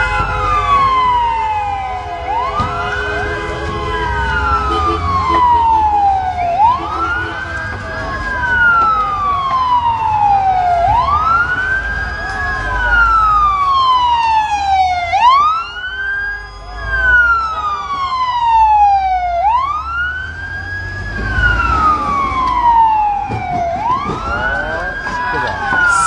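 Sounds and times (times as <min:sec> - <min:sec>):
fire truck siren wailing: 0:00.0 - 0:26.0.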